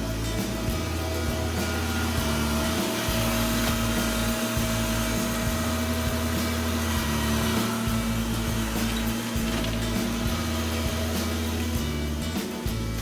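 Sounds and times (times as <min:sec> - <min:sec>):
background music with bass line: 0:00.0 - 0:13.0
steady mechanical drone: 0:00.0 - 0:13.0.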